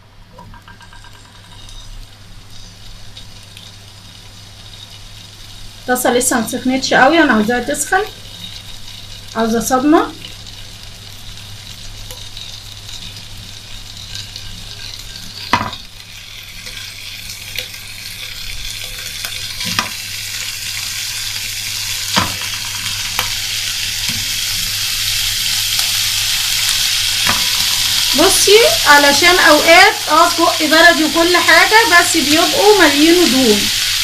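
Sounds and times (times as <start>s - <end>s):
sausages sizzling in a pan: 0.0s - 34.0s.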